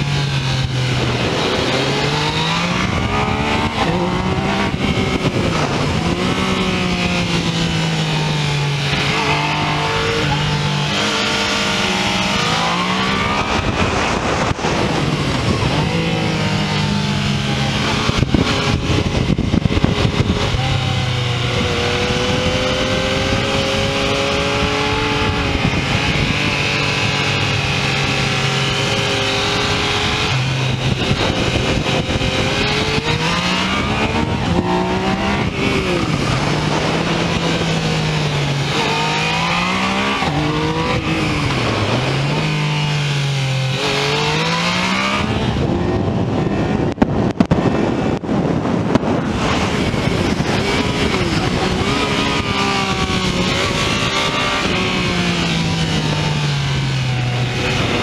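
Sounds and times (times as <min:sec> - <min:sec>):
motorcycle engine revving: 0:00.0 - 0:58.0
wind rushing over microphone: 0:00.0 - 0:58.0.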